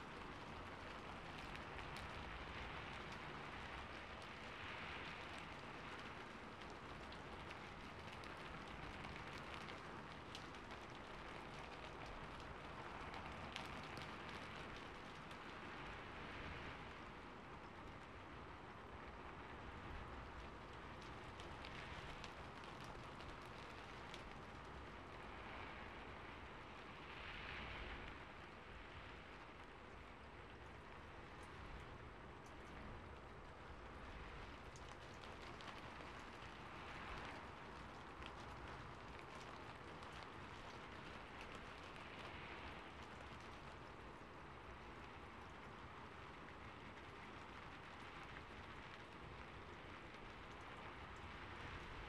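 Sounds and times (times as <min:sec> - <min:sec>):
rain falling on a rooftop: 0:00.0 - 0:52.0.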